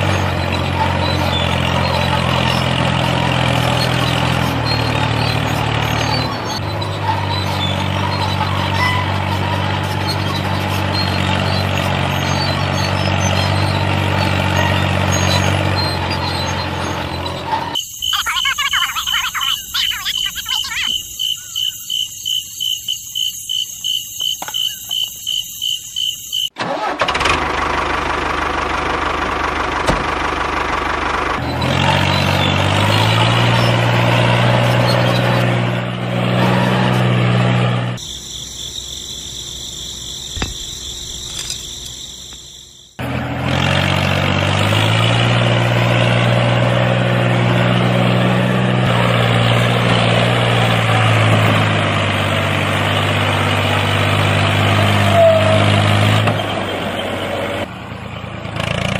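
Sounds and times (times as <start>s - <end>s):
tractor engine revving: 0.0s - 58.9s.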